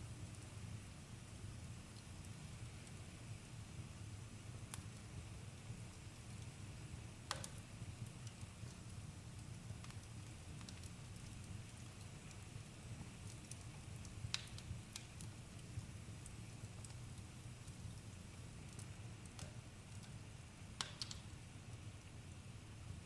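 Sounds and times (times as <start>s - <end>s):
crackles and pops of burning wood: 0.0s - 22.4s.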